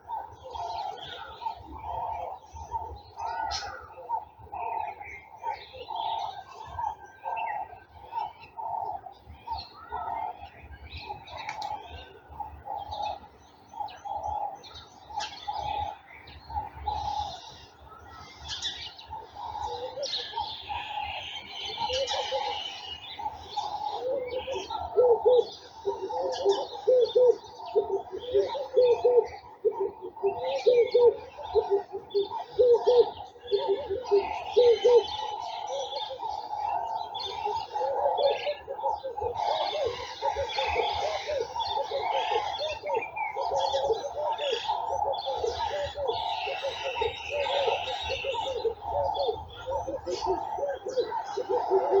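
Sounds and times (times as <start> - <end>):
repeated low bird notes: 0.0 - 52.0
small birds chirping: 0.0 - 52.0.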